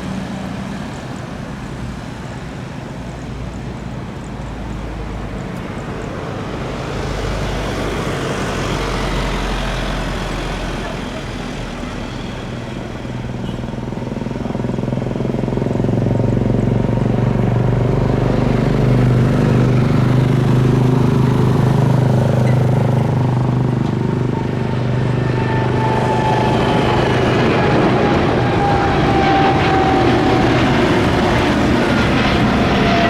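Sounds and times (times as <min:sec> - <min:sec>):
jet engines at takeoff: 0:00.0 - 0:33.0.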